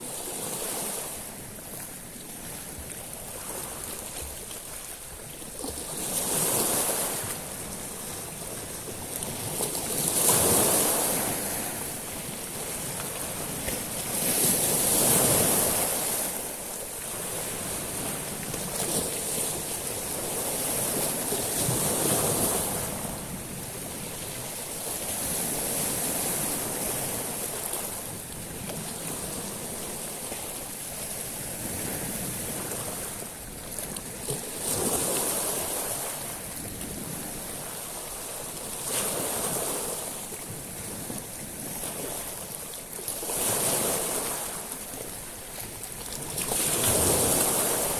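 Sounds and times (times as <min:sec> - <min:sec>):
waves washing over pebbles: 0:00.0 - 0:47.9.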